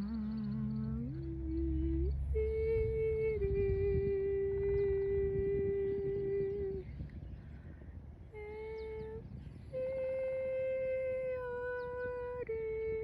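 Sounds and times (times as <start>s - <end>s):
long humming tones: 0.0s - 13.0s
low rumble: 0.0s - 13.0s.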